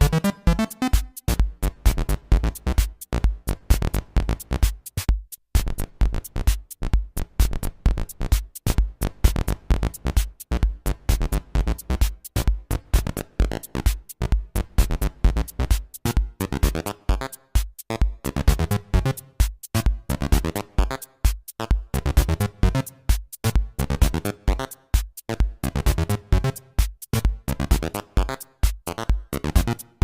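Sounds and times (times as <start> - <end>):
electronic drum beat: 0.0 - 30.0.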